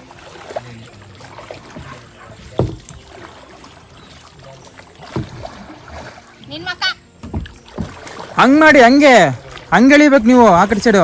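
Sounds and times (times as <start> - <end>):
paddle strokes swishing through water: 0.0 - 11.0.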